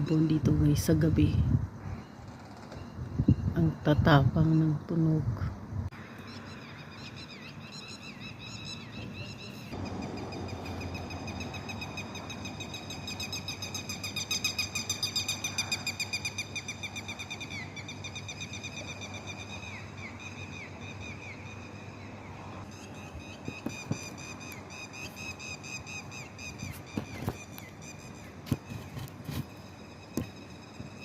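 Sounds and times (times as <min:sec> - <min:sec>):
night birds calling: 0:00.0 - 0:31.0.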